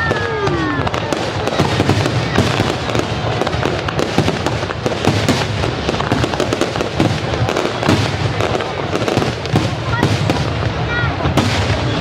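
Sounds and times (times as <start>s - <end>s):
fireworks bursts and pops: 0.0s - 12.0s.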